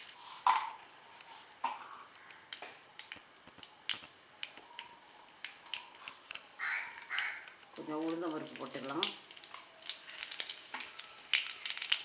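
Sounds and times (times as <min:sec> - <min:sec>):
mustard seeds popping in hot oil: 0:00.0 - 0:12.0.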